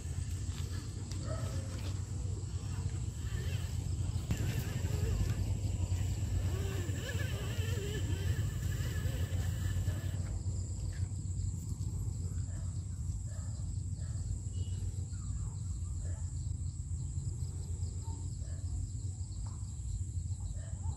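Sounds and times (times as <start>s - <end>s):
high insect drone: 0.0s - 20.9s.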